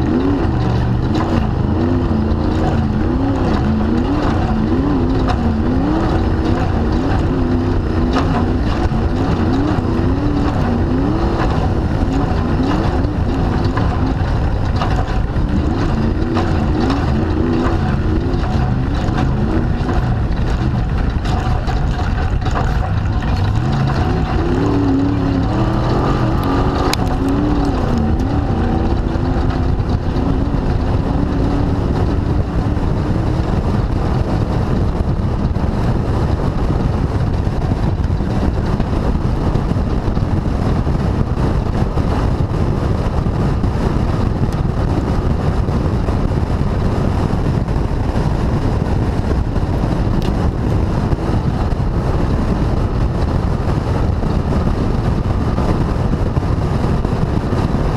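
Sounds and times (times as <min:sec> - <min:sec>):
loud rush of noise: 0:00.0 - 0:57.9
race car engine revving: 0:00.0 - 0:57.9.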